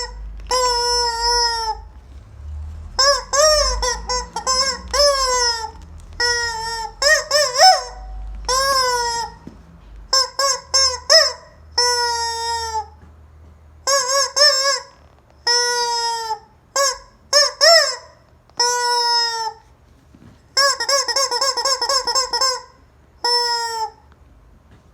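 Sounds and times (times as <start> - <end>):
rubber chicken toy squeaking: 0.0 - 2.0, 2.8 - 9.5, 10.1 - 13.0, 13.8 - 19.7, 20.6 - 24.0.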